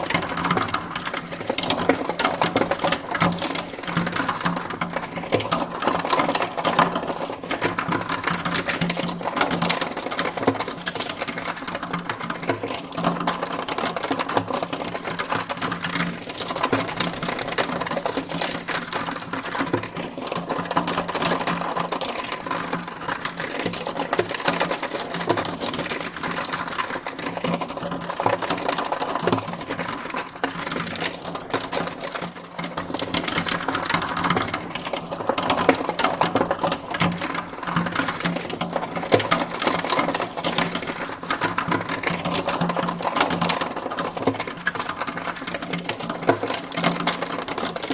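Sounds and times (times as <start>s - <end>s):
rapid mechanical clatter: 0.0s - 47.9s.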